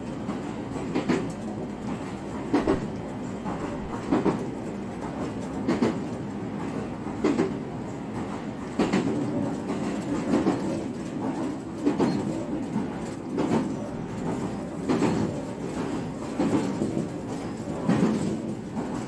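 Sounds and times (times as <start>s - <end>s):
clickety-clack rail-joint knocks: 0.0s - 19.0s
train rumble from inside: 0.0s - 19.0s.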